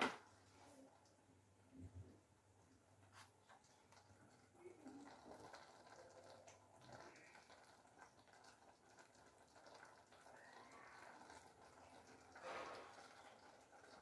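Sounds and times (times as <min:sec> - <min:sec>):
faint ticking and sizzling pan: 0:02.4 - 0:14.0.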